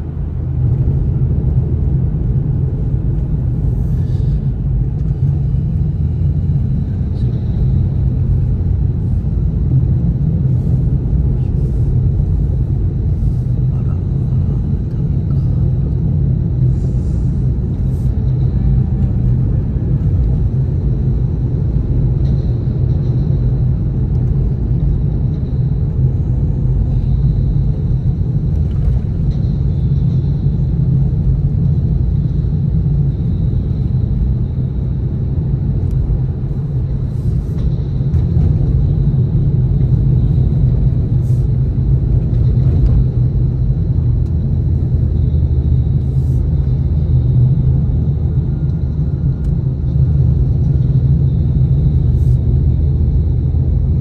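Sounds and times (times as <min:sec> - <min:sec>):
car engine rumble: 0:00.0 - 0:54.0
road noise: 0:00.0 - 0:54.0.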